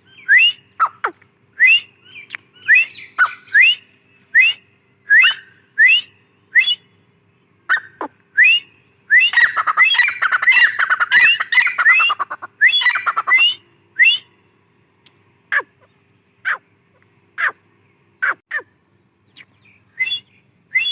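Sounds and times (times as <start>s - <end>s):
francolin calling: 0.0s - 16.7s, 17.4s - 20.9s.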